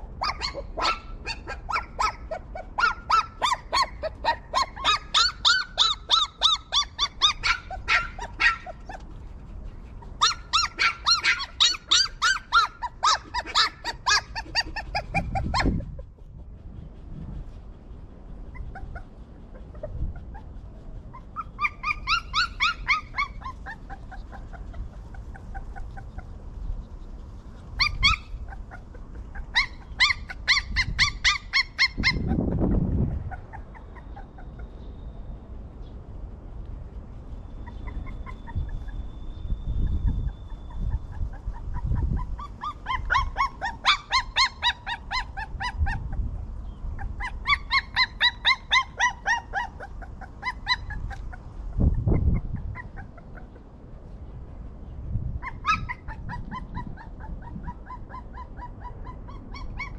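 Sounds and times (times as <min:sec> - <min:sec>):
puppies whimpering and yipping: 0:00.0 - 0:35.2, 0:37.2 - 0:54.2, 0:55.2 - 0:59.9.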